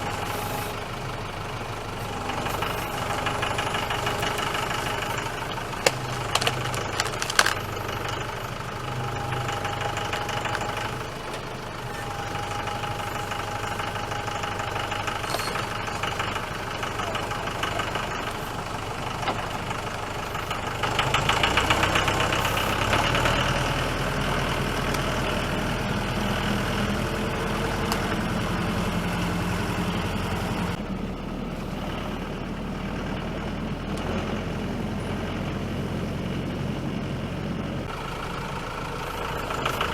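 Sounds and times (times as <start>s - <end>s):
tractor engine: 0.0s - 39.9s.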